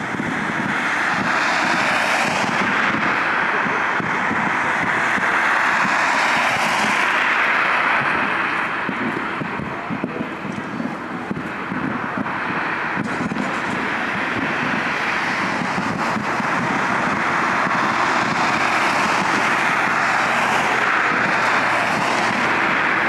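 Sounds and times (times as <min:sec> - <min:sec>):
jet engine rushing: 0:00.0 - 0:23.0.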